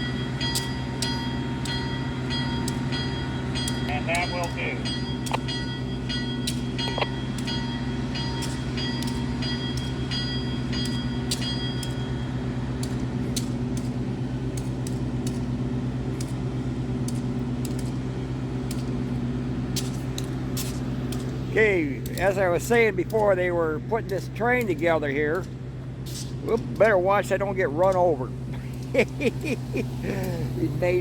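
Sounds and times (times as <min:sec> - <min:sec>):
diesel locomotive idling: 0:00.0 - 0:31.0.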